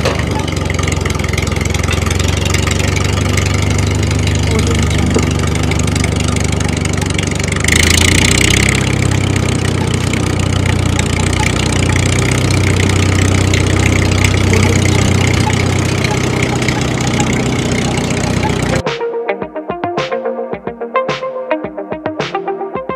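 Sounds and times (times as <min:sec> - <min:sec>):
motor humming: 0:00.0 - 0:18.8.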